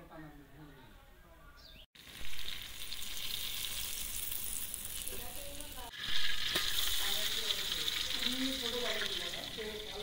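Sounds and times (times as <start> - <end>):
hot fat sizzling: 2.0 - 10.0.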